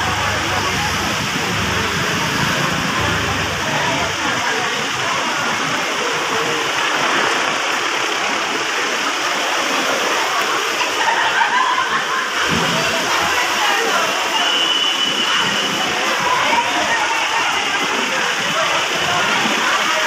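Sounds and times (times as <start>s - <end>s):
crowd hubbub: 0.0s - 20.0s.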